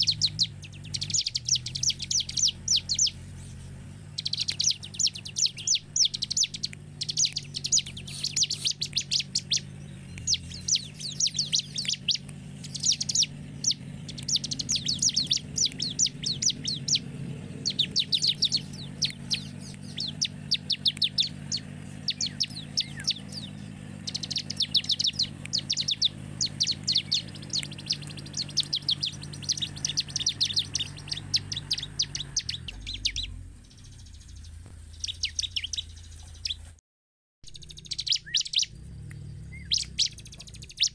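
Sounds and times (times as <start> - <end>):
steady low hum: 0.0 - 36.4, 37.5 - 40.9
bird singing high chips: 0.0 - 36.8, 37.4 - 40.9.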